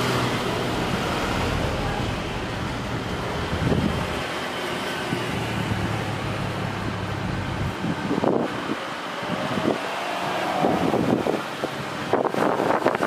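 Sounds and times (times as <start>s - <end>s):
distant jet engines roaring: 0.0s - 13.0s.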